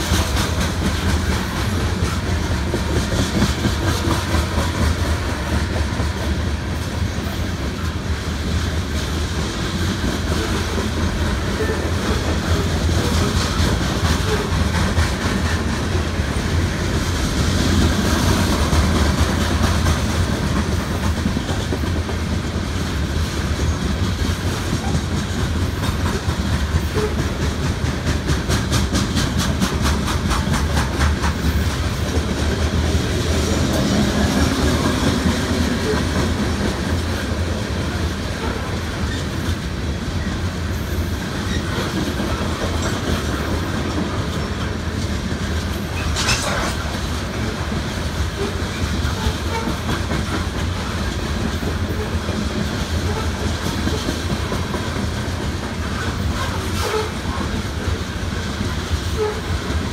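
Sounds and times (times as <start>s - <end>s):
freight train rumbling: 0.0s - 59.9s
wheels clacking over rail joints: 0.0s - 59.9s.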